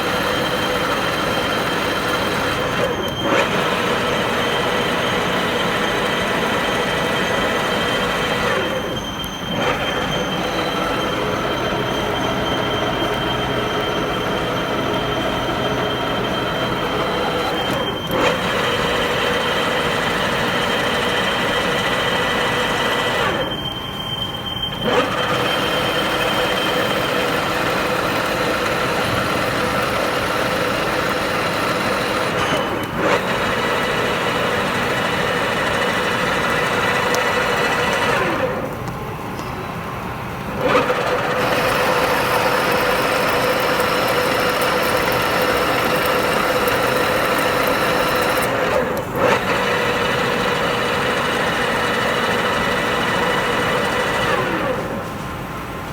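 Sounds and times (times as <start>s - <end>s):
lathe metallic whine: 0.0s - 55.8s.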